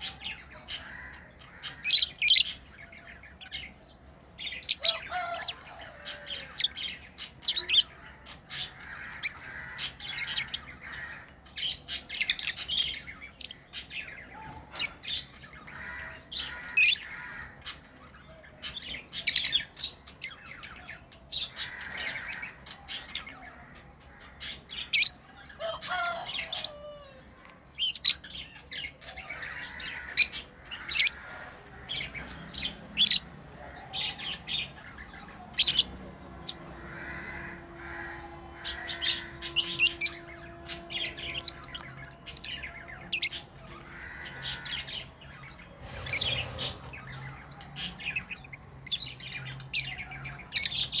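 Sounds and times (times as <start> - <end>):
lovebirds chirping and squawking: 0.0 - 51.0.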